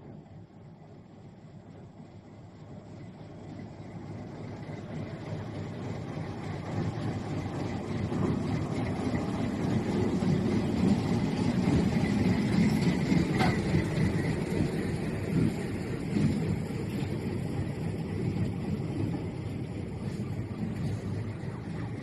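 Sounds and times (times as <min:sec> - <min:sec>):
heavy vehicle rumbling: 0:00.0 - 0:22.0.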